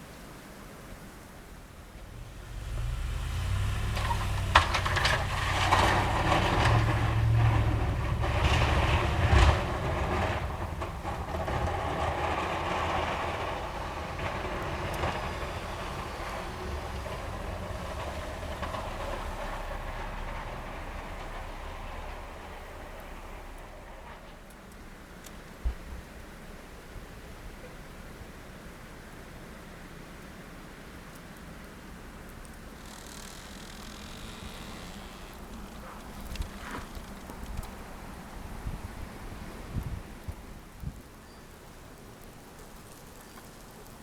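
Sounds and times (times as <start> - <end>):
heavy vehicle rumble passing: 1.1 - 41.1.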